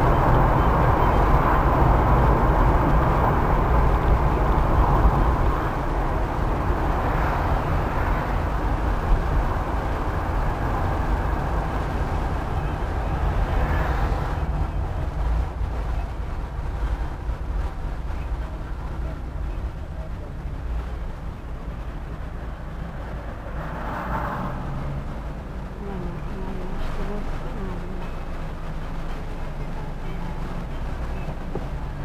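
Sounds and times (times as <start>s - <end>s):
car engine idling: 0.0s - 23.9s, 24.5s - 32.0s.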